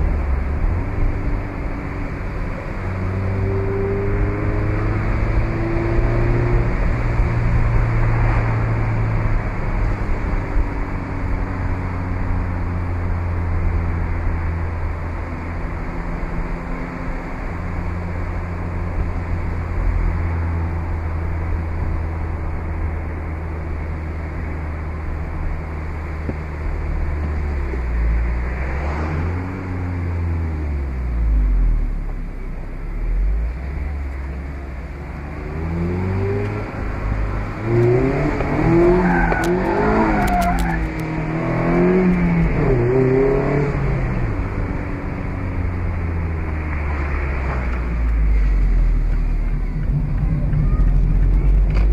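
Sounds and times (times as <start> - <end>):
car engine cruising: 0.0 - 51.9.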